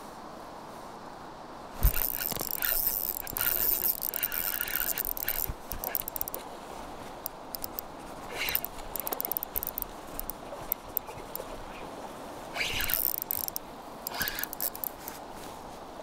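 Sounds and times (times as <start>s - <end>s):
river flowing: 0.0s - 16.0s
hand scraping on camera: 1.8s - 15.6s.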